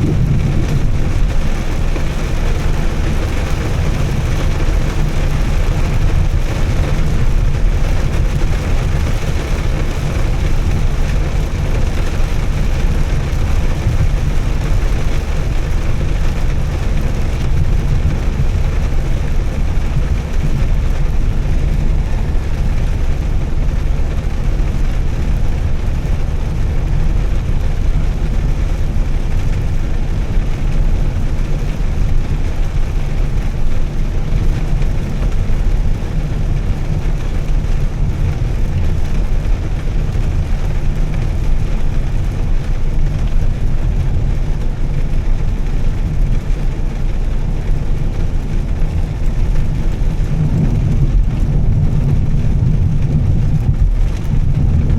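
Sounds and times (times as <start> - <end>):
car engine and exhaust drone: 0.0 - 54.9
tyre and road noise: 0.0 - 54.9.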